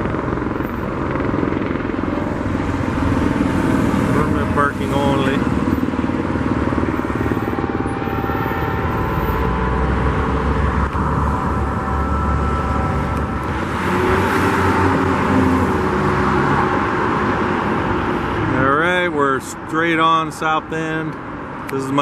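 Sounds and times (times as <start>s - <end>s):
passing engine hum: 0.0s - 18.6s
road traffic rushing: 0.0s - 22.0s.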